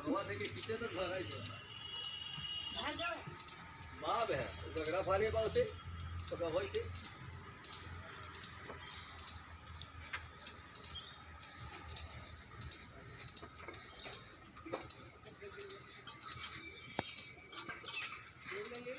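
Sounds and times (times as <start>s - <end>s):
small animal chirping: 0.4s - 8.6s, 9.2s - 9.5s, 10.7s - 11.0s, 11.9s - 18.9s.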